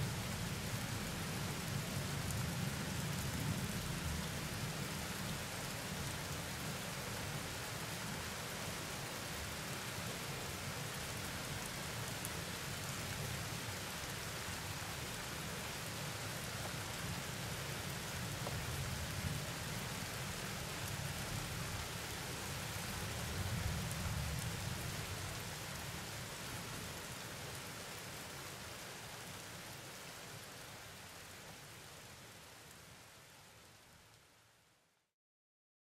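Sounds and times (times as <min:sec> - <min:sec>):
steady rain: 0:00.0 - 0:35.1.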